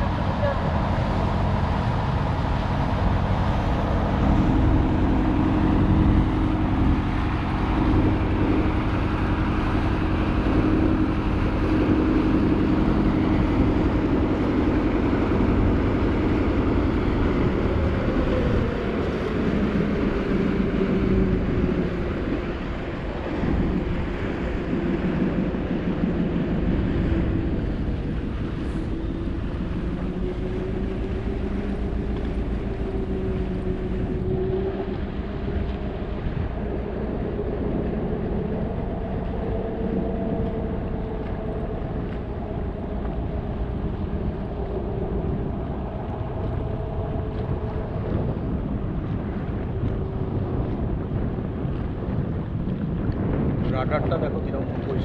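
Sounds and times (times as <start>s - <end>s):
motorboat engine running: 0.0s - 55.0s
water washing along hull: 0.0s - 55.0s.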